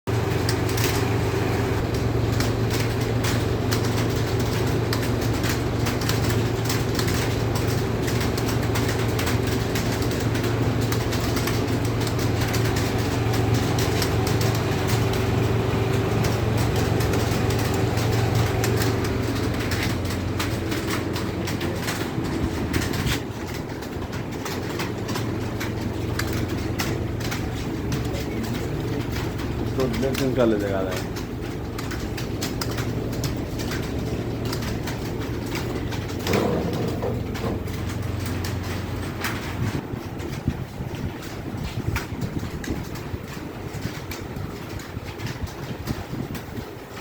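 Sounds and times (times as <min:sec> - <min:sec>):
keyboards typing clatter: 0:00.1 - 0:47.0
steady low hum: 0:00.1 - 0:47.0.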